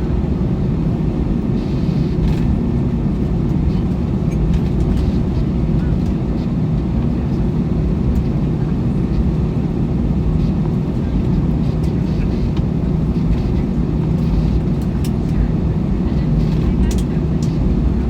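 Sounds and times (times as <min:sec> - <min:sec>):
airplane cabin rumble and hum: 0:00.0 - 0:18.0.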